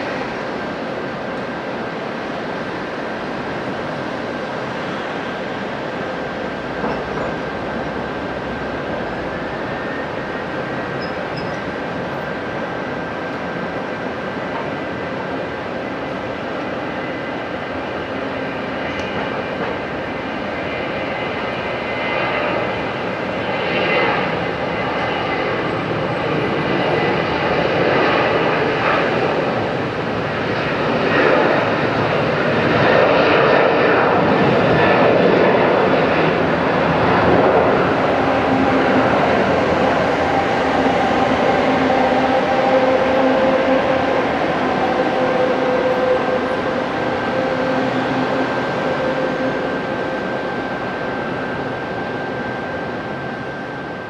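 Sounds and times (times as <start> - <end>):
jet engine roar with fan whine: 0.0 - 54.0.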